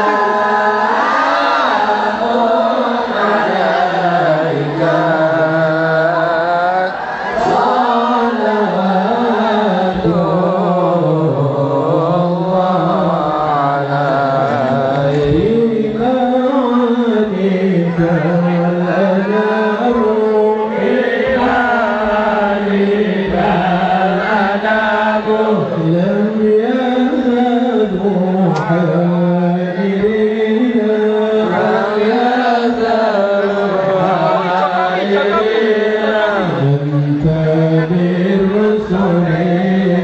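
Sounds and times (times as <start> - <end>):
devotional chanting: 0.0 - 40.0.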